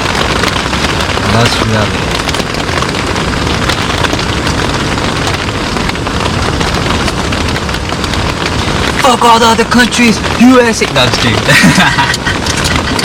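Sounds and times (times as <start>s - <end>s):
small crackles and ticks: 0.0s - 13.0s.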